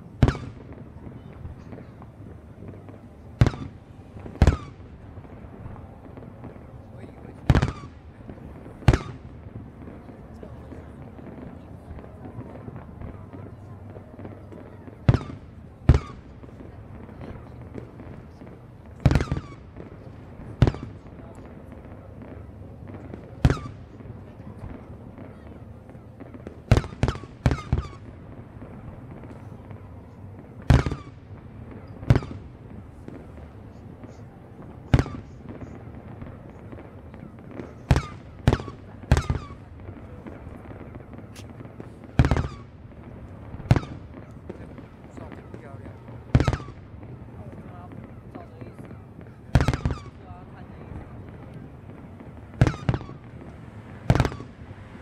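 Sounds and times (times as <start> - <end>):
firework shells booming: 0.0 - 55.0.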